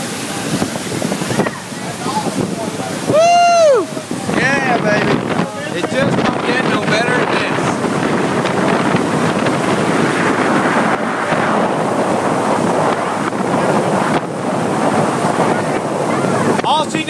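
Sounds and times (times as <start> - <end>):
boat water noise: 0.0 - 17.0
wind buffeting microphone: 0.0 - 17.0.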